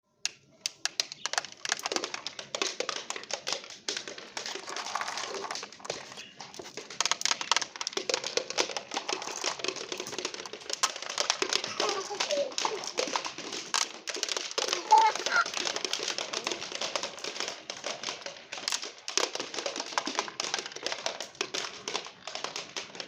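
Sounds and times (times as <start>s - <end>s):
marbles clattering down a track: 0.3s - 23.0s.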